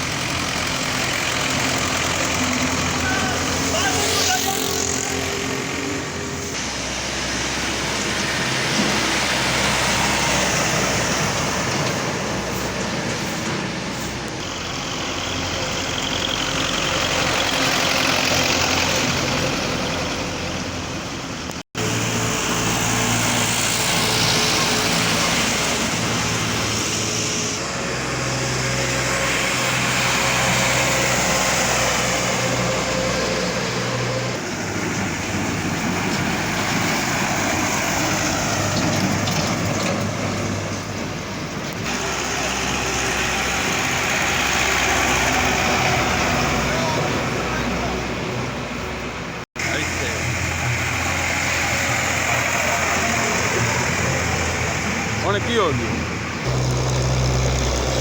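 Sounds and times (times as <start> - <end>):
road noise: 0.0 - 58.0
tractor diesel engine running: 0.0 - 58.0.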